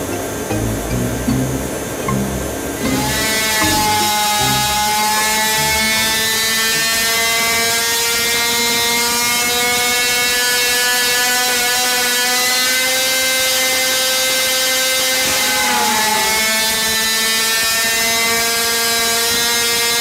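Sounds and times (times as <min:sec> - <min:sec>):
two-stroke engine revving high: 0:00.5 - 0:19.8.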